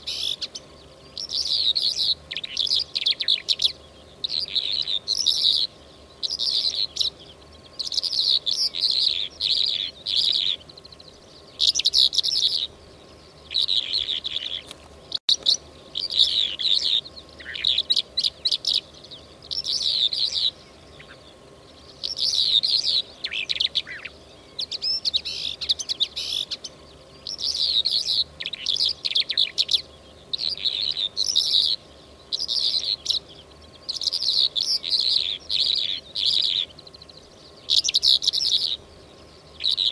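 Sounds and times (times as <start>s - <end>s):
lark twittering song: 0.0s - 39.9s.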